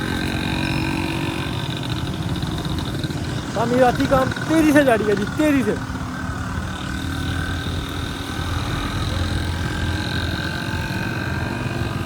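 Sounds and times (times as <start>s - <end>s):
motorcycle engine running: 0.0s - 12.0s
road and traffic noise: 0.0s - 12.0s.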